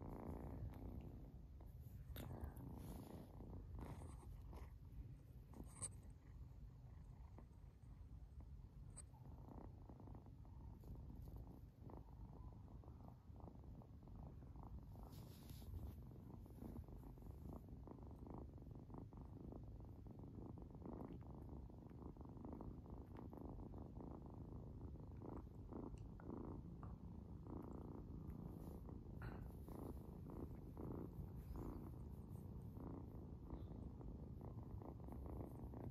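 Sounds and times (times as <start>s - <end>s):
kitten purring: 0.0s - 35.9s.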